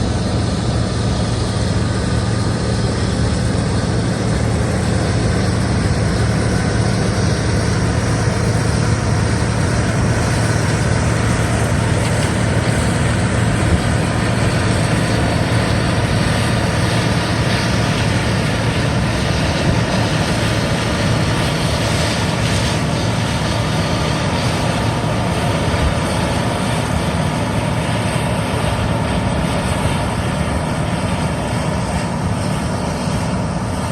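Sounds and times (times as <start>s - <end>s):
combine harvester droning: 0.0s - 33.9s.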